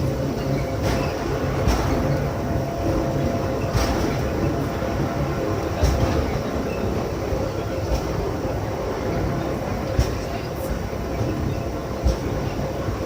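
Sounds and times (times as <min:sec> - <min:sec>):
railcar rumble and hum: 0:00.0 - 0:13.0.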